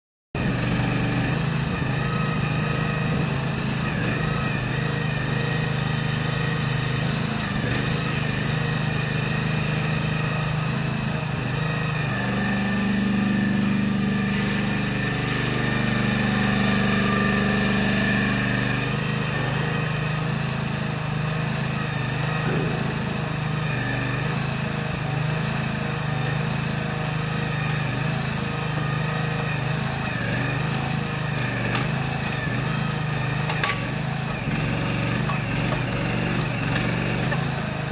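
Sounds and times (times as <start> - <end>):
mini excavator engine running: 0.4 - 37.9.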